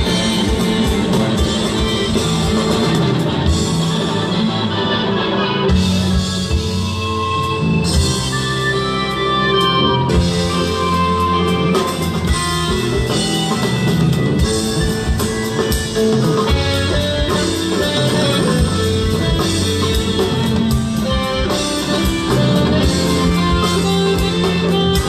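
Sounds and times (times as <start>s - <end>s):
bass: 0.0s - 25.0s
drum kit: 0.0s - 25.0s
electric guitar: 0.0s - 25.0s
held keyboard notes: 0.0s - 25.0s.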